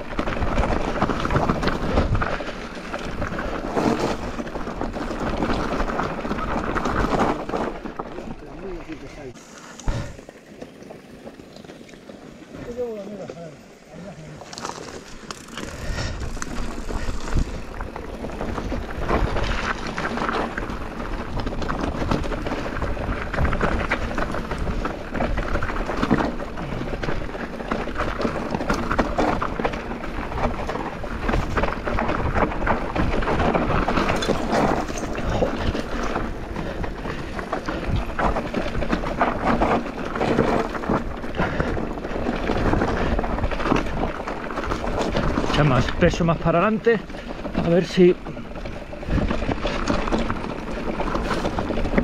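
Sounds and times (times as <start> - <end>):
bike rattling and knocking: 0.0 - 52.0
bike tyres on loose stones: 0.0 - 52.0.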